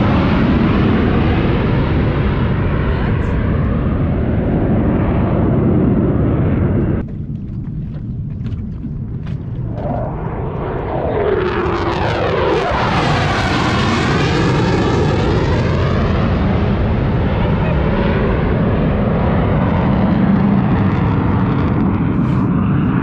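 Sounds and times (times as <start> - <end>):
jet aircraft flying past: 0.0 - 23.0.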